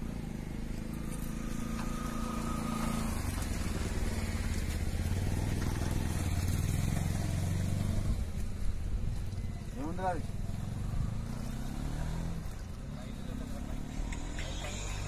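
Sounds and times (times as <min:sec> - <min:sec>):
engine running with low throb: 0:00.0 - 0:15.0.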